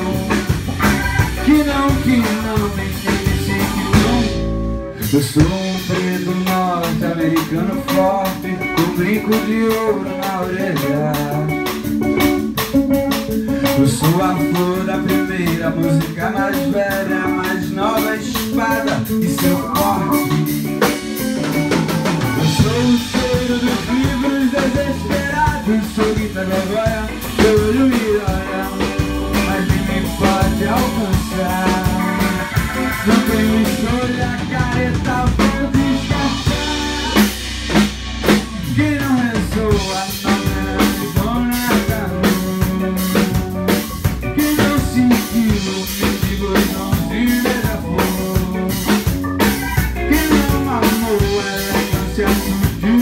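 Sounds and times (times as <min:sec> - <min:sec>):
drum kit beating: 0:00.0 - 0:53.0
instrumental band playing: 0:00.0 - 0:53.0.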